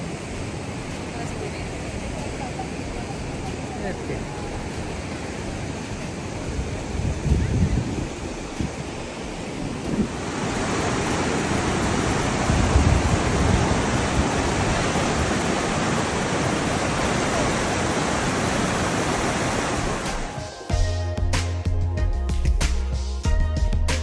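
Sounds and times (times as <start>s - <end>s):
river water flowing: 0.0s - 20.7s.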